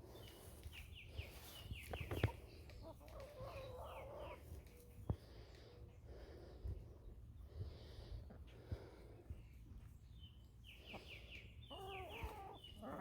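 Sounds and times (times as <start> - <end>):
chickens clucking: 0.1 - 5.8, 8.2 - 13.0.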